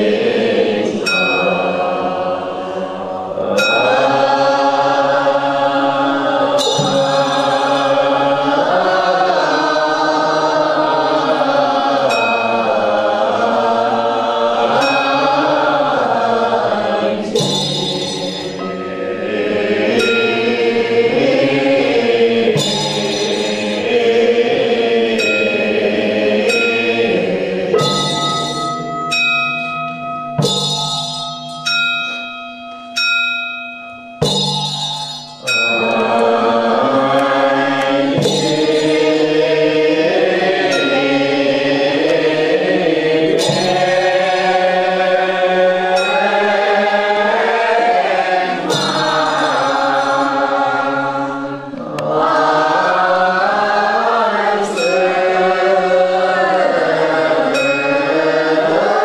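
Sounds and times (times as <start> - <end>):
group chanting: 0.0 - 29.4, 34.2 - 59.0
ritual bell ringing: 0.0 - 59.0.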